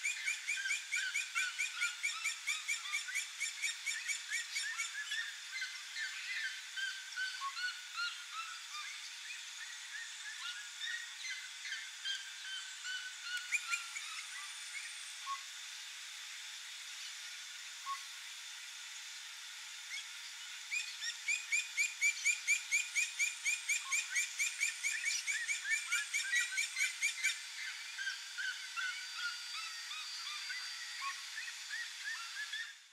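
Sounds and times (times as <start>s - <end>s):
faint chirps of other birds: 0.0s - 15.5s, 19.9s - 32.9s.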